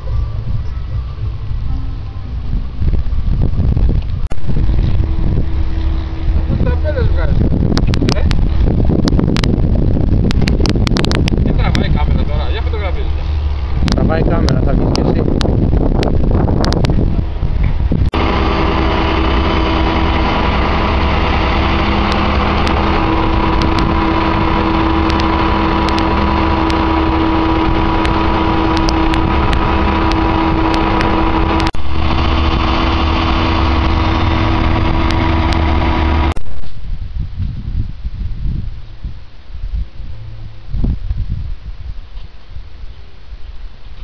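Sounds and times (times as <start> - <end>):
diesel engine idling: 0.0 - 36.4.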